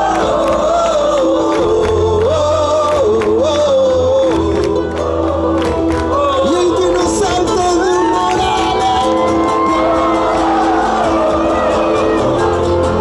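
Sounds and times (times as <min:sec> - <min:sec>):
crowd noise: 0:00.0 - 0:13.0
guitars: 0:00.0 - 0:13.0
person singing: 0:00.0 - 0:13.0.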